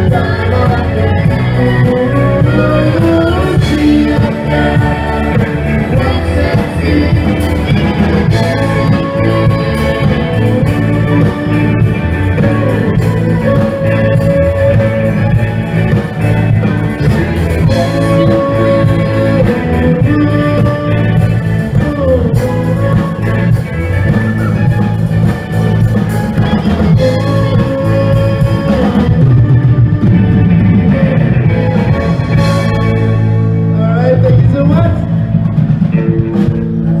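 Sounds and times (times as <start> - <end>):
woman singing lead: 0.0 - 25.3, 26.4 - 34.2
live band playing: 0.0 - 37.0.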